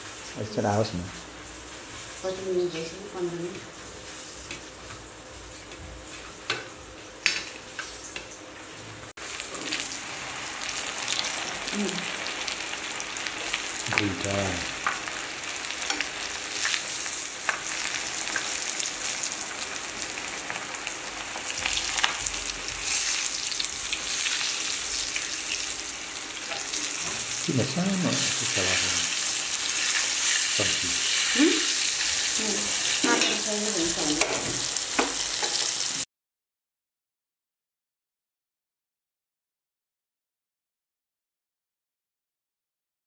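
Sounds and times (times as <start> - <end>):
chicken deep-frying in oil: 0.0 - 36.1.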